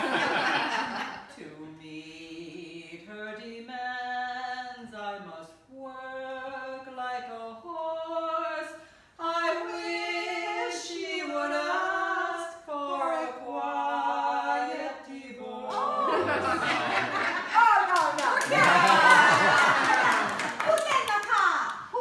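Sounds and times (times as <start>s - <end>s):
women singing a cappella: 1.2s - 20.1s.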